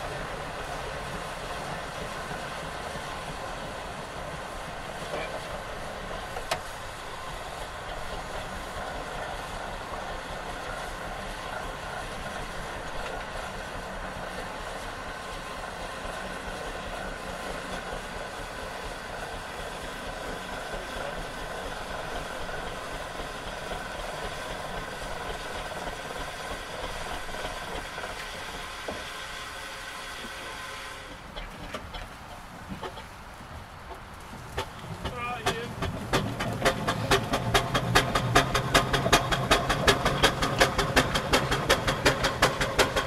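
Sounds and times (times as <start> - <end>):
steam hissing: 0.0 - 43.0.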